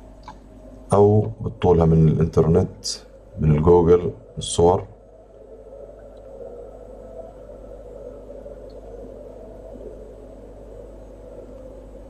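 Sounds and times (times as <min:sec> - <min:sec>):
room tone hum and hiss: 0:00.0 - 0:12.0.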